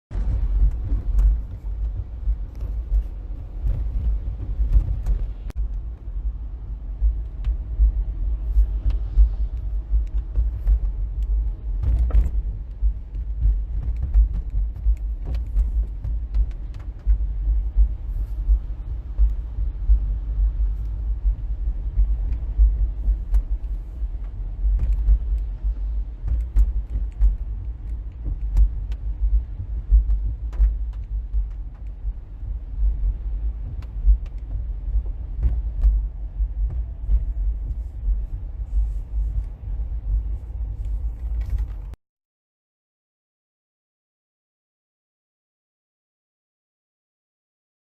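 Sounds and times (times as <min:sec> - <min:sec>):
wind buffeting microphone: 0:00.1 - 0:42.0.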